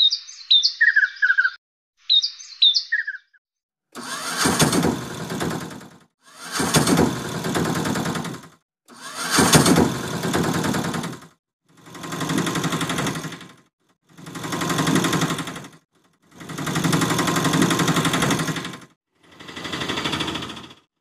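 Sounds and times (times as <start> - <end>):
rapid mechanical rattling: 4.0 - 20.9.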